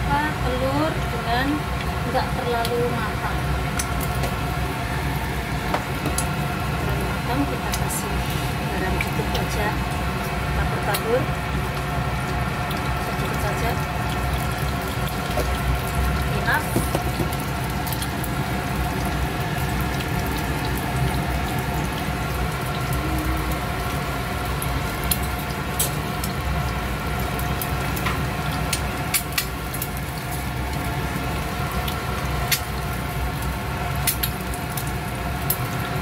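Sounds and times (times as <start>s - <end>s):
egg sizzling in oil: 1.6s - 36.0s
oil popping: 3.6s - 6.8s, 7.5s - 35.8s.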